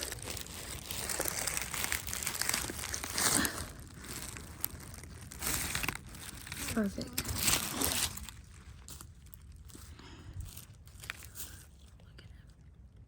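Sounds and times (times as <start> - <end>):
dry leaves rustling and crunching: 0.0 - 11.8.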